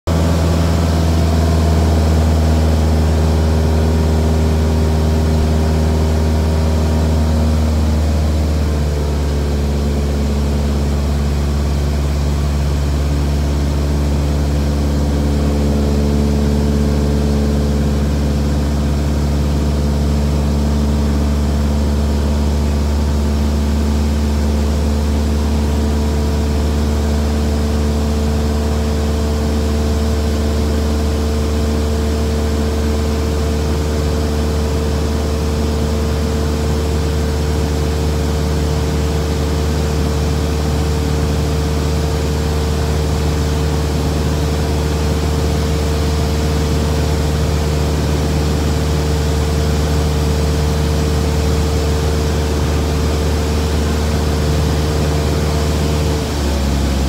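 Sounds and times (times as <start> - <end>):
light aircraft engine droning: 0.1 - 57.0.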